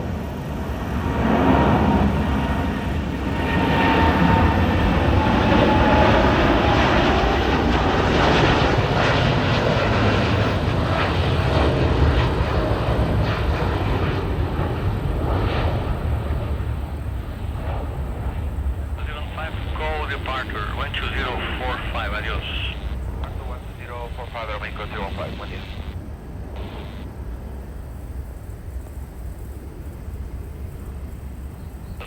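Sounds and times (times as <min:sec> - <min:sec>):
jet engines at takeoff power: 0:00.0 - 0:32.0.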